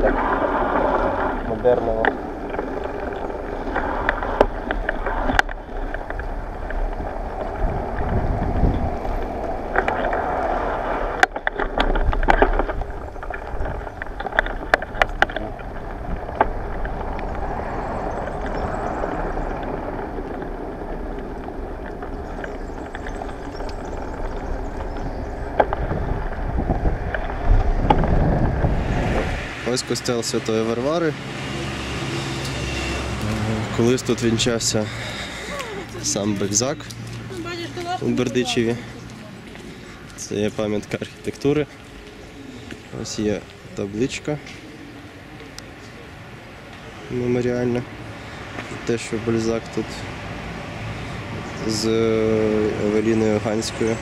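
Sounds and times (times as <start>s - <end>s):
tyres and wind rushing: 0.0s - 54.0s.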